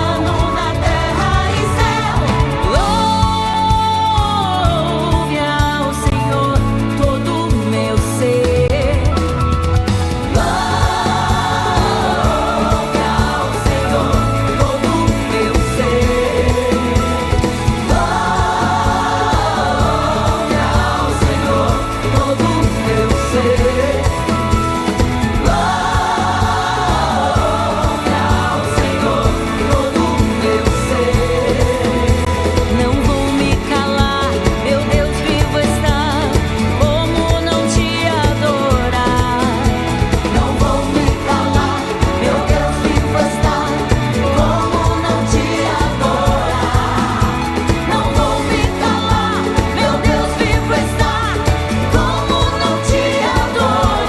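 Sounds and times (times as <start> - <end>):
choir singing: 0.0 - 4.6, 10.1 - 54.0
band with drums bass keyboards: 0.0 - 54.0.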